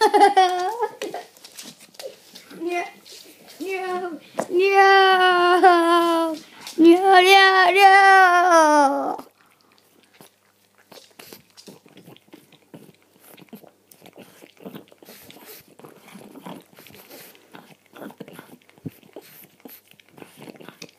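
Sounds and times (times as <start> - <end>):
dog chewing: 0.1 - 7.6, 8.9 - 20.9.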